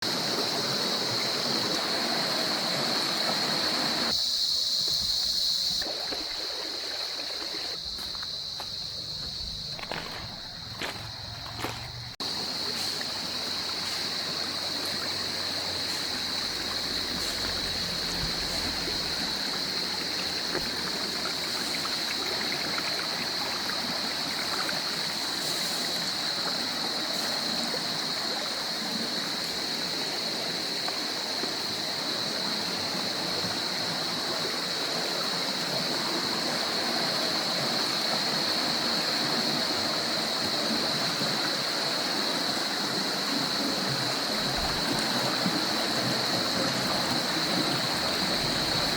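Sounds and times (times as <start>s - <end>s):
stream gurgling over rocks: 0.0s - 48.9s.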